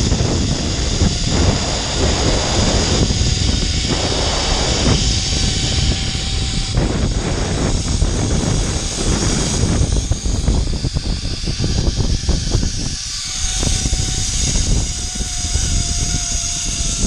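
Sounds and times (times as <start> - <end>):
wind buffeting microphone: 0.0 - 17.0
zipline pulleys whirring on cable: 0.0 - 17.0.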